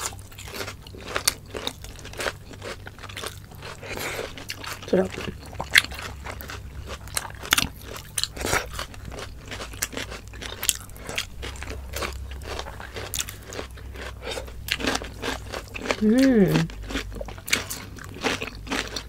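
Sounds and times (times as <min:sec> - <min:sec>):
crunching and chewing raw vegetables: 0:00.0 - 0:19.0.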